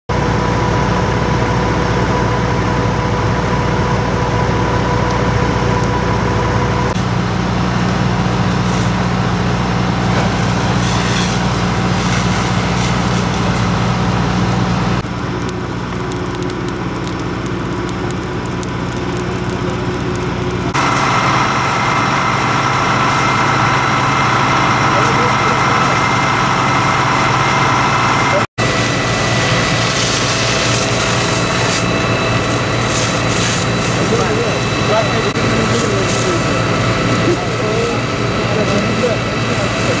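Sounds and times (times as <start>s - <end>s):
truck engine running: 0.1s - 40.0s.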